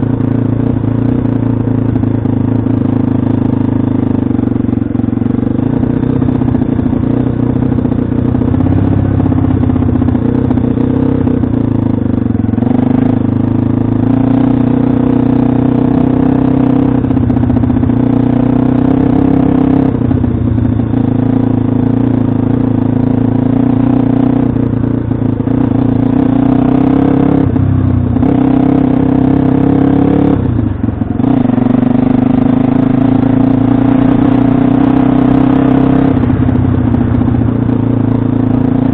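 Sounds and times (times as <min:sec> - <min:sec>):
motorbike engine running: 0:00.0 - 0:38.9.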